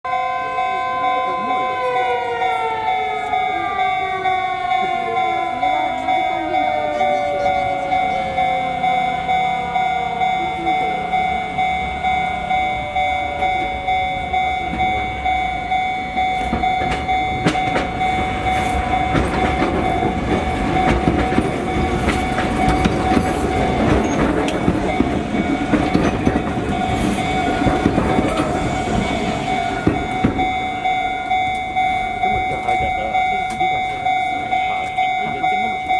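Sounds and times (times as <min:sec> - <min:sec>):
level crossing alarm ringing: 0:00.1 - 0:35.9
train rumble and wheel clatter: 0:00.3 - 0:35.9.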